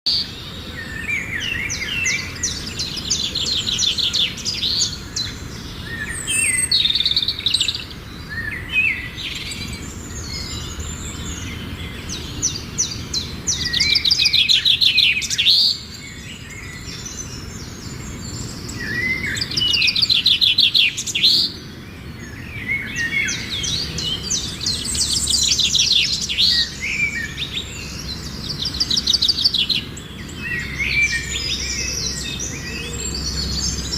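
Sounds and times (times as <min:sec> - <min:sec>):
small birds chirping and trilling: 0:00.1 - 0:33.9.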